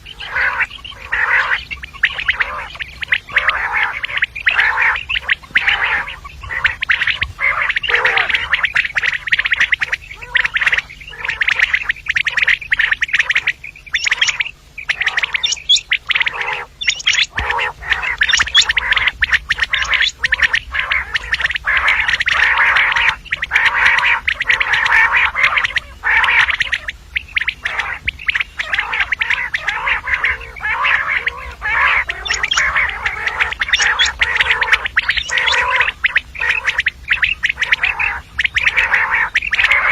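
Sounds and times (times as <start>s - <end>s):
quail chattering call: 0.0s - 39.9s.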